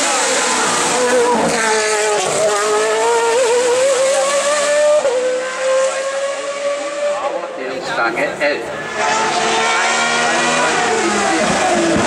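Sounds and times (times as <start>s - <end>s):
racing car engine revving: 0.0s - 12.0s.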